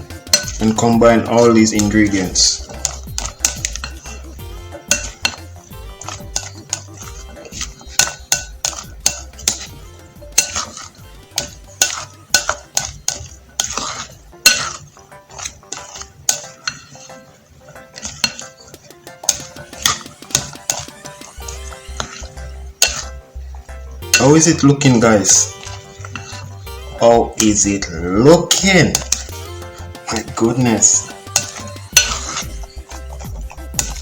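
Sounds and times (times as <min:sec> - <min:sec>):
spoon clinking against bowl: 0:00.0 - 0:34.0
spoon stirring in a bowl: 0:00.0 - 0:34.0.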